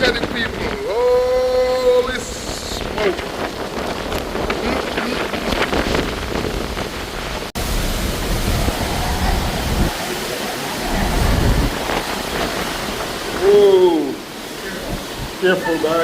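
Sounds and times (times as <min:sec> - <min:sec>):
heavy rain downpour: 0:00.0 - 0:16.0
wind gusts buffeting microphone: 0:00.0 - 0:16.0.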